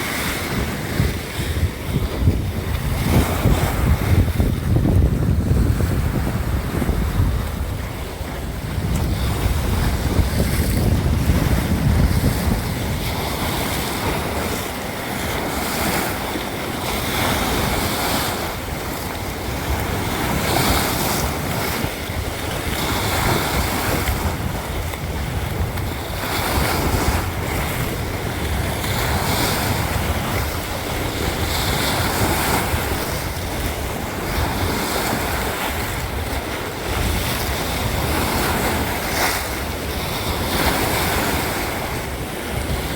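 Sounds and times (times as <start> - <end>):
sea waves washing in: 0.0 - 42.9
wind buffeting microphone: 0.0 - 42.9.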